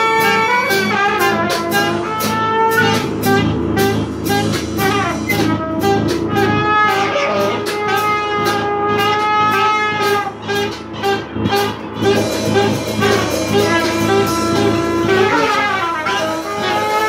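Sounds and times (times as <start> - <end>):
brass horns holding long notes: 0.0 - 17.0
drum and cymbal hits: 0.0 - 17.0.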